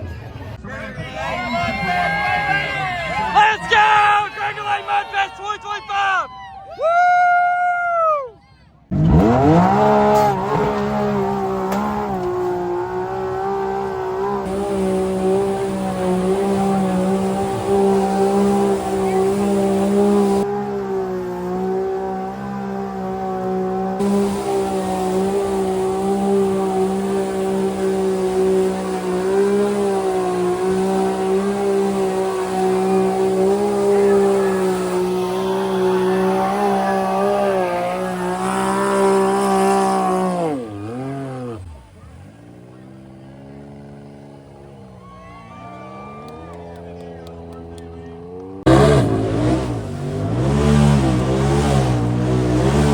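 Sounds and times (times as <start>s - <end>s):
atv engine running: 8.9s - 52.9s.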